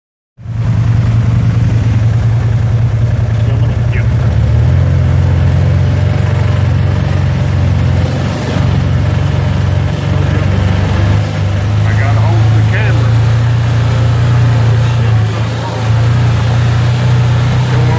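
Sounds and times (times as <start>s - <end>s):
vehicle engine running: 0.4s - 17.9s.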